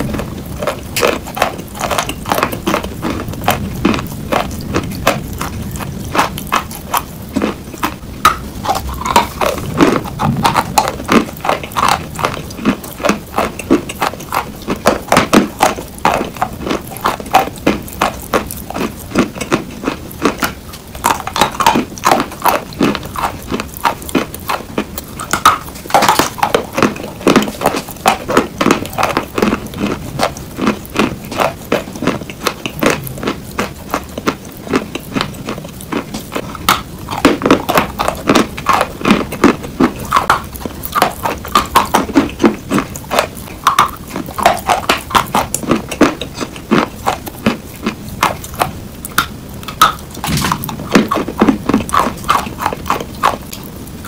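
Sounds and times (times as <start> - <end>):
chalk crunching being chewed: 0.0 - 54.0.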